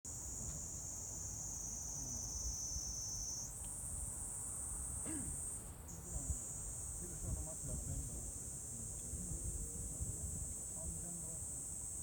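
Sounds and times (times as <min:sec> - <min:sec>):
night insects trilling: 0:00.2 - 0:12.0.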